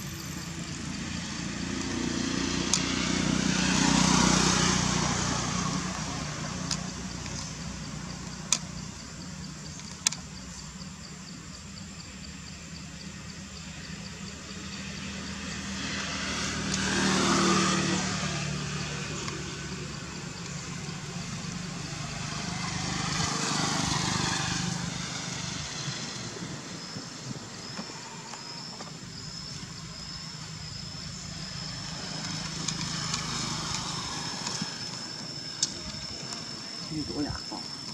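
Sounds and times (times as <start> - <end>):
vehicles passing on road: 0.0 - 37.9.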